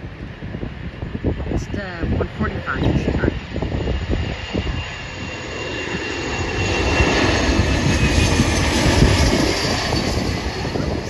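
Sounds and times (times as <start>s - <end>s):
jet engine whine: 0.0s - 11.0s
wind rumble on microphone: 0.0s - 11.0s.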